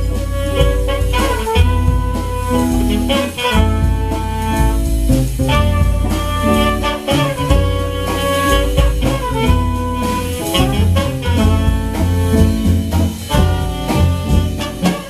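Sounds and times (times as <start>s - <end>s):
drum kit: 0.0s - 15.0s
electric guitar: 0.0s - 15.0s
trumpet melody: 0.0s - 15.0s
upright bass: 0.0s - 15.0s.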